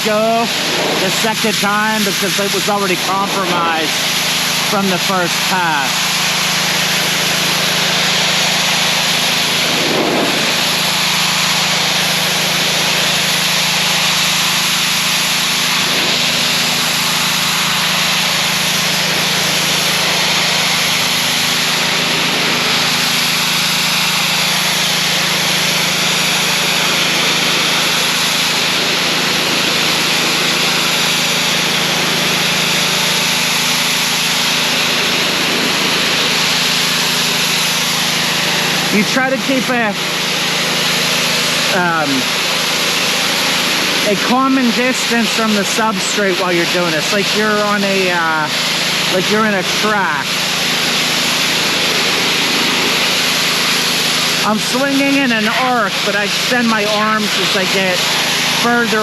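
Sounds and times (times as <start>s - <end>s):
high-pressure spray hissing: 0.0s - 59.0s
pressure washer engine running: 0.0s - 59.0s.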